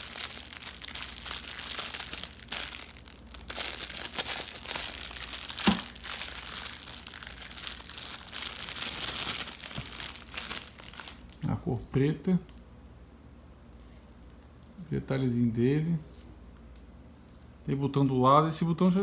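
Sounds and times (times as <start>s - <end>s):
packaging crinkling and rustling: 0.0s - 11.8s, 13.6s - 17.7s.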